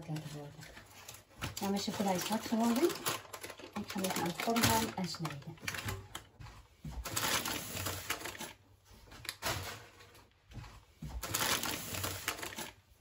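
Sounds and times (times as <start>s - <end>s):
handling rustling and clatter: 0.0s - 12.8s.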